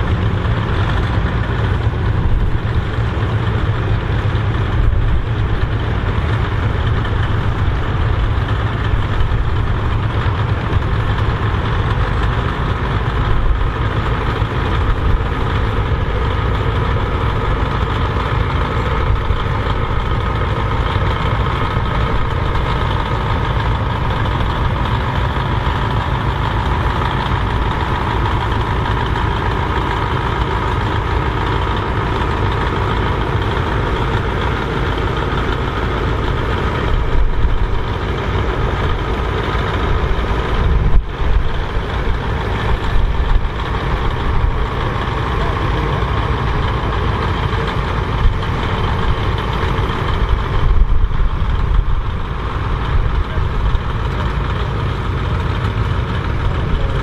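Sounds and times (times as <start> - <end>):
tractor engines rumbling: 0.0 - 57.0.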